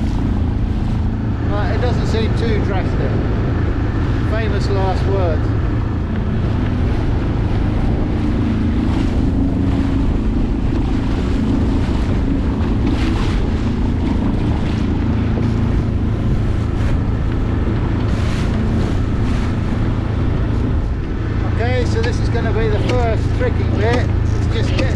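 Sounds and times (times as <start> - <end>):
boat motor running: 0.0 - 24.9
boat moving through choppy water: 0.0 - 24.9
waves splashing: 0.0 - 24.9
wind buffeting microphone: 0.0 - 24.9.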